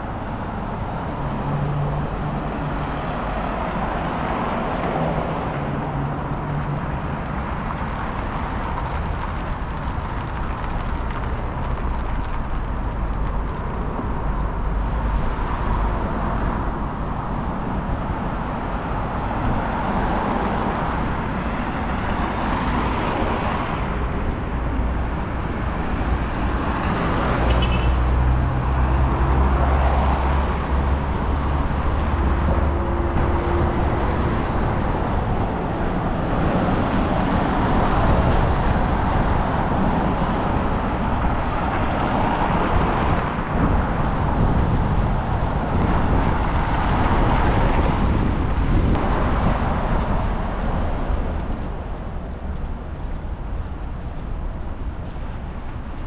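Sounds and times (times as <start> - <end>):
cars passing: 0.0 - 56.0
wind rumble on microphone: 0.0 - 56.0.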